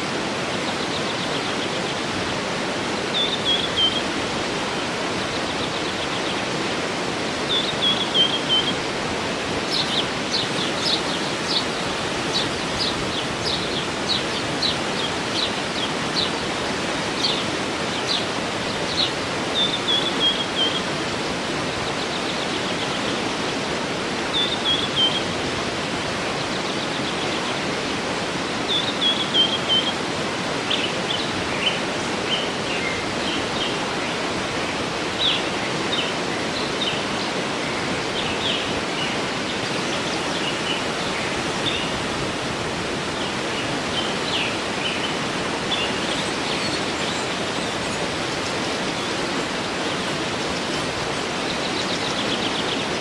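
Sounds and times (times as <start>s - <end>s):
birds chirping: 0.0s - 53.0s
waterfall rushing: 0.0s - 53.0s.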